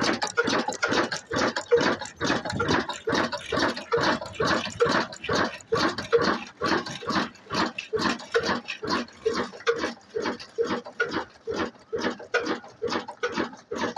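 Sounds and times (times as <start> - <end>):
diesel engine chugging: 0.0 - 13.9.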